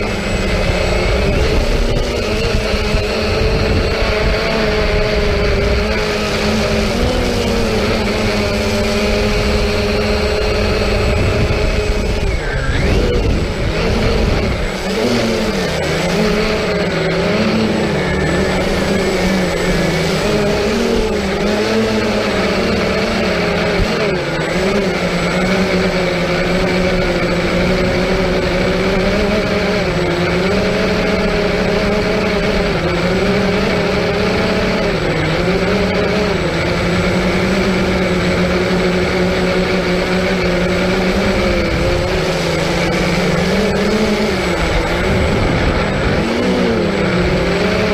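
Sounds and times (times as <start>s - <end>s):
drone motors humming: 0.0s - 47.9s.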